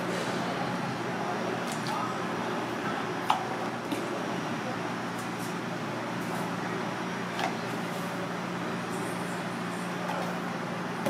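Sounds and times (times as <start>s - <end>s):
kitchen background hum: 0.0s - 11.0s.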